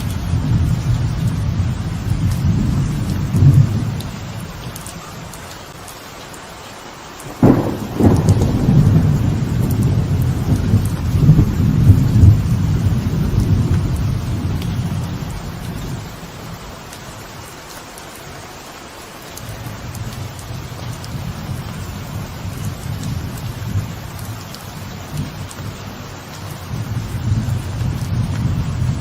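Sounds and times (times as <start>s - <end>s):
thunderclap and rumble: 0.0s - 5.3s, 7.3s - 17.0s, 19.4s - 29.0s
faint thunder rumble: 0.0s - 5.5s, 7.3s - 17.5s, 19.4s - 29.0s
steady rain: 0.0s - 29.0s.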